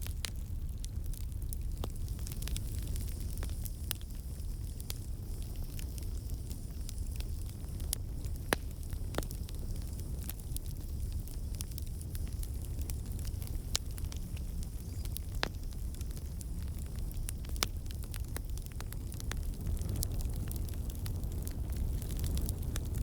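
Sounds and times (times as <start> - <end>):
burning wood crackles and pops: 0.0 - 23.0
campfire flames rumbling: 0.0 - 23.0.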